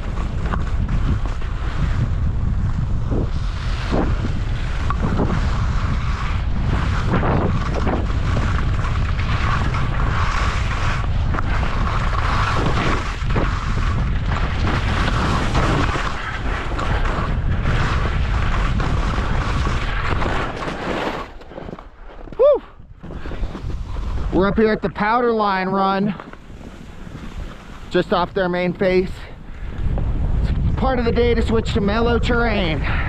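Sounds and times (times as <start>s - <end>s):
wind buffeting microphone: 0.0s - 20.6s, 21.6s - 33.0s
skis sliding through snow: 0.0s - 32.8s.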